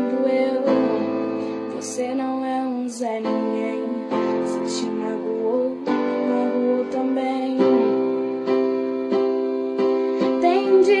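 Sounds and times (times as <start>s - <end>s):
song with piano chords: 0.0s - 11.0s.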